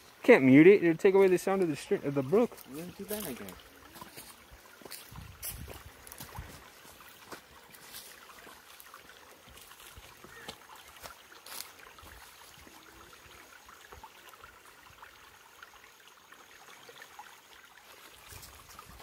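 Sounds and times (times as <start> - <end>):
brook trickling over stones: 0.0 - 19.0.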